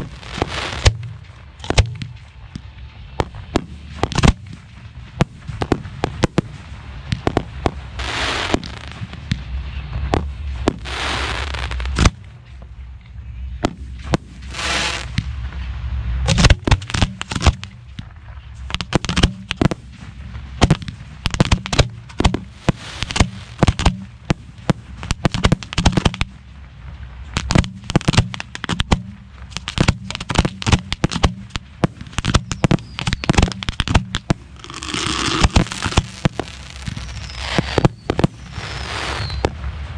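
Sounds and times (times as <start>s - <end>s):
fireworks bangs: 0.0s - 12.9s, 13.5s - 39.9s
fireworks crackling: 0.0s - 39.9s.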